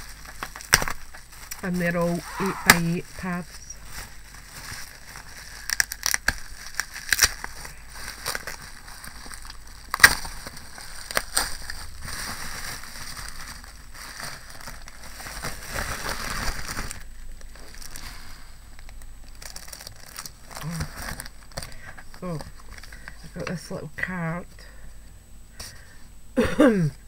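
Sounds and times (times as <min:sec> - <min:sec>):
bubble wrap crinkling: 0:00.0 - 0:24.6.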